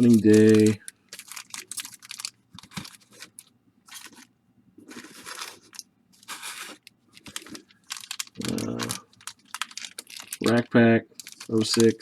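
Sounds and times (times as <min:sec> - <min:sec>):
wrappers tearing and crinkling: 0:00.0 - 0:04.3, 0:04.9 - 0:12.0.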